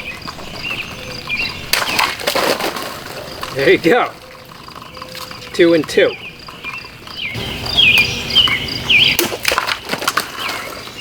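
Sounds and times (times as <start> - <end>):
birds chirping: 0.0 - 2.2, 3.0 - 11.0.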